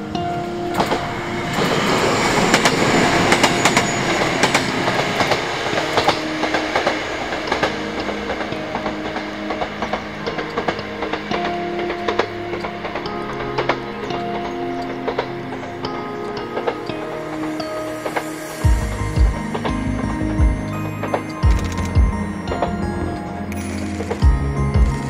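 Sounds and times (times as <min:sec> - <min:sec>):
train wheels clicking over rail joints: 0:00.1 - 0:25.0.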